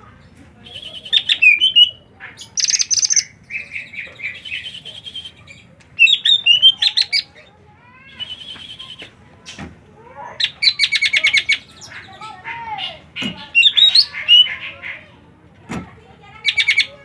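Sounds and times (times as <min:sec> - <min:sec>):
songbird chirping and trilling: 0:00.0 - 0:09.6, 0:10.4 - 0:15.2, 0:16.2 - 0:17.0.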